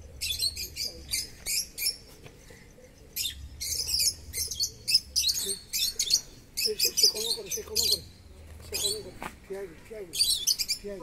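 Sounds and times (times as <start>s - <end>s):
small birds chirping and squawking: 0.0s - 11.0s.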